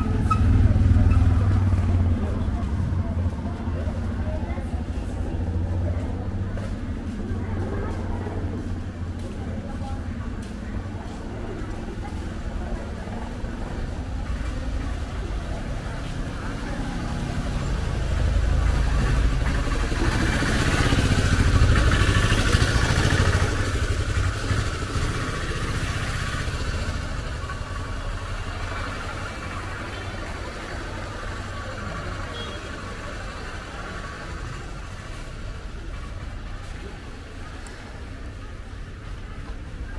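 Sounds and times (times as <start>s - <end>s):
street rumble: 0.0s - 39.9s
vehicle engine running: 0.0s - 39.9s.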